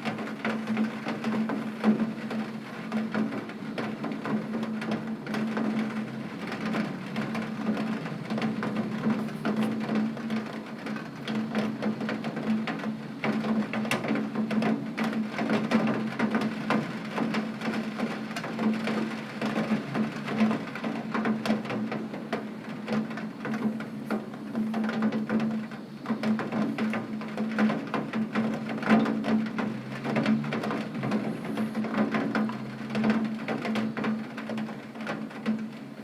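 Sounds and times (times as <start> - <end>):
rain tapping on window glass: 0.0 - 36.0.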